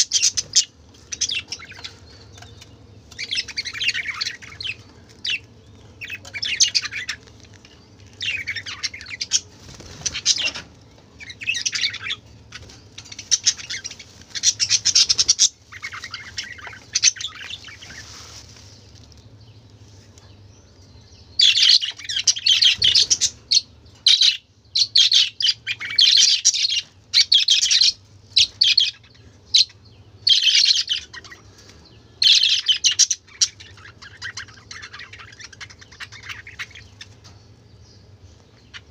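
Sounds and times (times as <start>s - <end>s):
budgerigars chattering and chirping: 0.0s - 18.3s, 21.4s - 37.4s
steady low hum: 0.0s - 38.9s.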